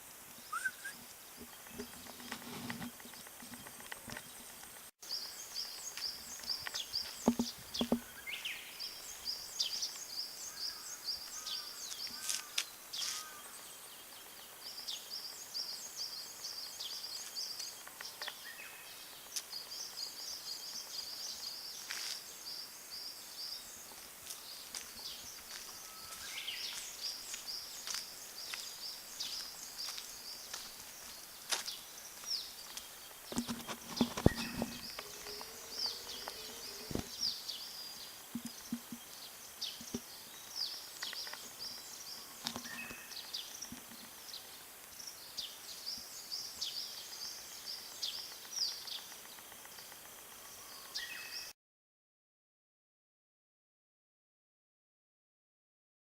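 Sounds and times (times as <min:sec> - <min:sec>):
small birds chirping: 0:00.2 - 0:51.5.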